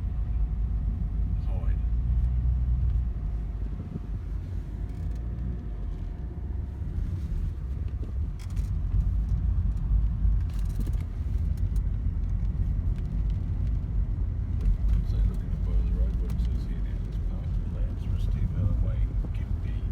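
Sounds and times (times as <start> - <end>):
car cabin road rumble: 0.0 - 19.9.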